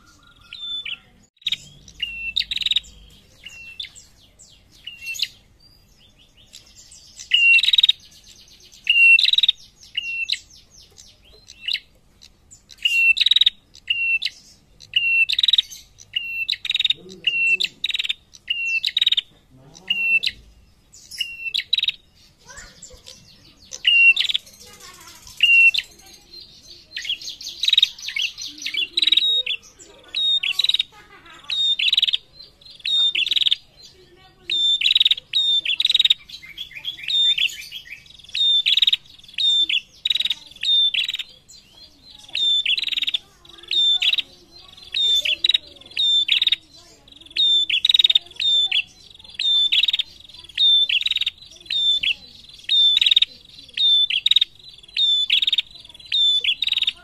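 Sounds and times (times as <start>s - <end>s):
fast bird trills: 0.0s - 57.0s
warbler chirping: 0.0s - 57.0s.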